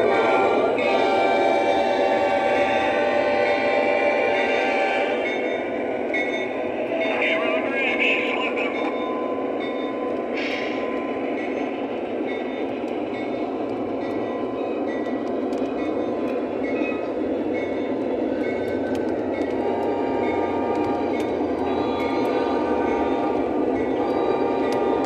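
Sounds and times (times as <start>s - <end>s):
model train wheels rolling on rail: 0.0s - 25.0s.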